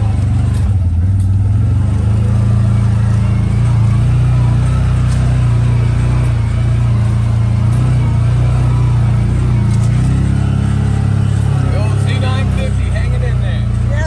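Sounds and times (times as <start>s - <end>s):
atv engine droning: 0.0s - 14.0s.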